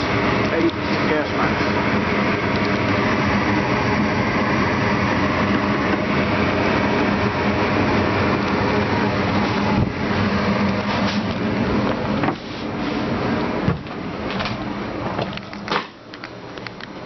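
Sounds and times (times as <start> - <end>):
gas furnace humming: 0.0 - 17.0.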